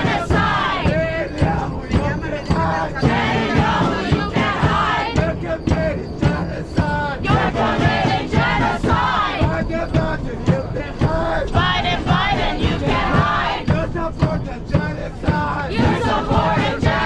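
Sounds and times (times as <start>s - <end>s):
crowd chanting slogans: 0.0s - 17.0s
sharp rhythmic beats: 0.0s - 17.0s.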